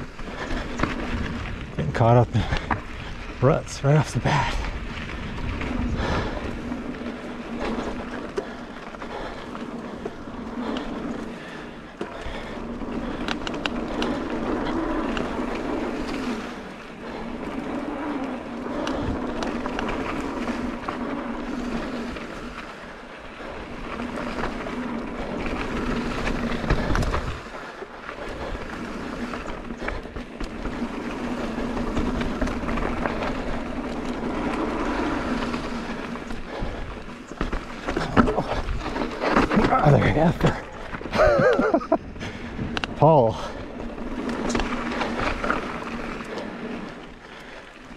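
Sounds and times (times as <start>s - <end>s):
bike tyres grinding over dirt: 0.0s - 47.9s.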